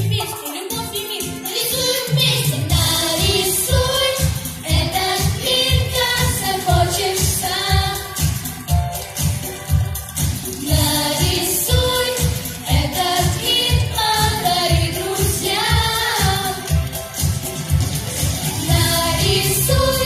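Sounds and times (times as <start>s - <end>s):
backing track with bass beat: 0.0s - 20.0s
children singing pop song: 0.0s - 20.0s.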